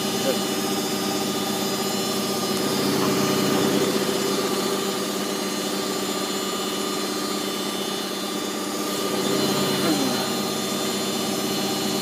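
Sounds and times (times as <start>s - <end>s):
washing machine drum spinning: 0.0s - 12.0s.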